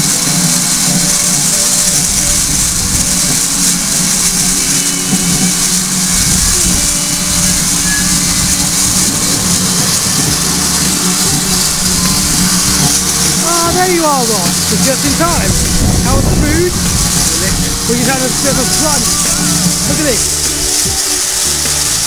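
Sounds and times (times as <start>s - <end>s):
locomotive steady hiss: 0.0s - 22.0s.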